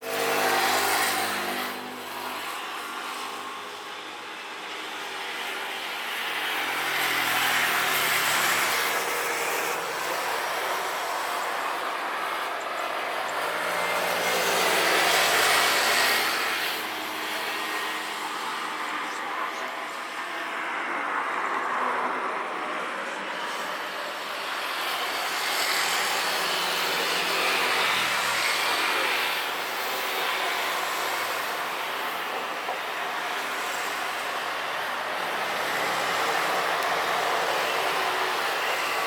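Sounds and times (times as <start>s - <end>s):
passing vehicle engines: 0.0s - 39.0s.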